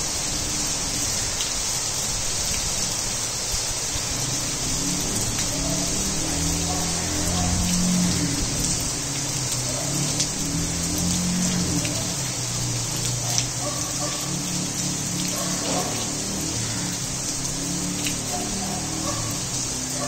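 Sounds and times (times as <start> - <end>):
heavy rain on roof tiles: 0.0 - 20.0.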